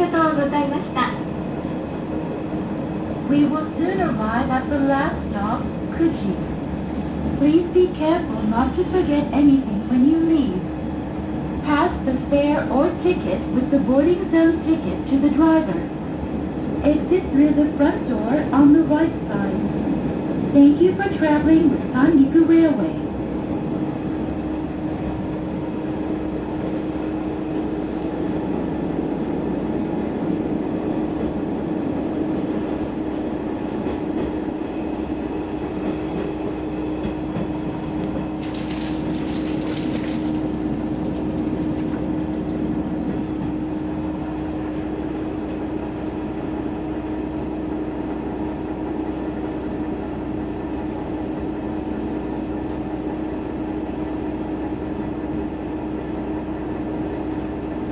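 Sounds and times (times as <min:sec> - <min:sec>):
railcar engine drone: 0:00.0 - 0:57.9
wheels rumbling on rails: 0:00.0 - 0:57.9.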